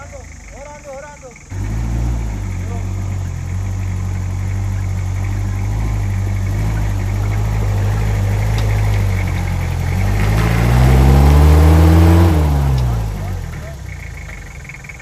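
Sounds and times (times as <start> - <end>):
jeep engine running and revving: 0.0 - 15.0.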